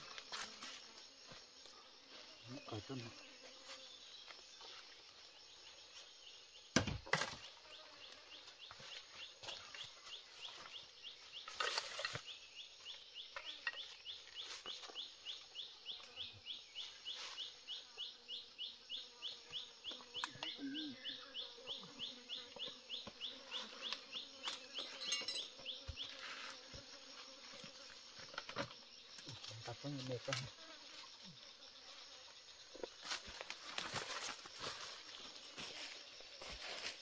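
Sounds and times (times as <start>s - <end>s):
insect chirping: 0.0s - 37.0s.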